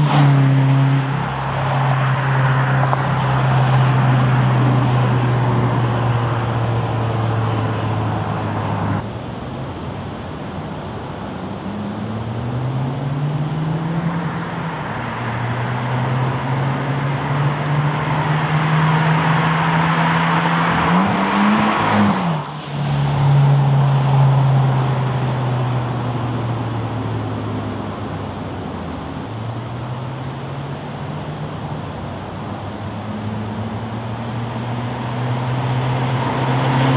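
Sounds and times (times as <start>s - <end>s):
car engine passing by: 0.0s - 36.9s.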